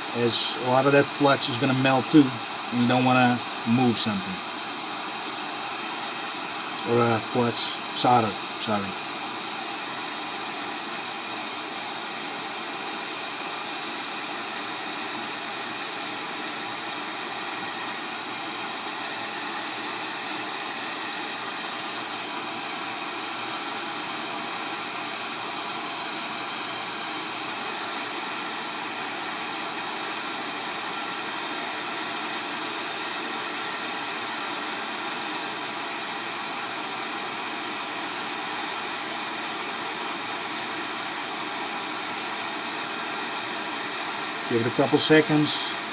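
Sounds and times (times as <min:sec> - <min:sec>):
heat gun blowing air: 0:00.0 - 0:45.9.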